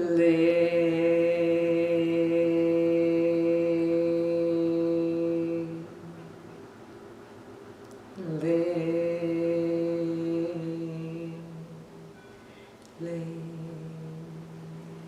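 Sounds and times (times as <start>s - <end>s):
woman chanting long hum: 0.0s - 6.3s, 8.2s - 12.1s, 12.9s - 15.0s.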